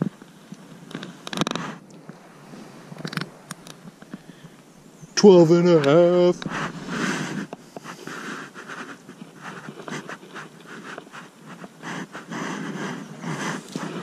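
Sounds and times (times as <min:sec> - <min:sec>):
fabric rubbing on microphone: 0:01.1 - 0:04.0, 0:05.2 - 0:14.0.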